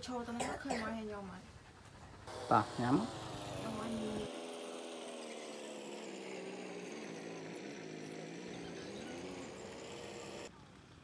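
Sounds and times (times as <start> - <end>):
vehicle engine running: 1.0 - 11.0.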